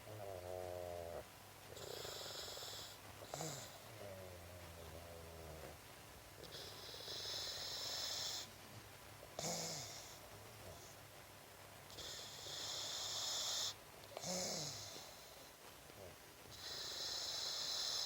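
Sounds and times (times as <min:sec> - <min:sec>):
puppy snoring: 0:00.0 - 0:08.6, 0:09.4 - 0:11.0, 0:11.9 - 0:18.0.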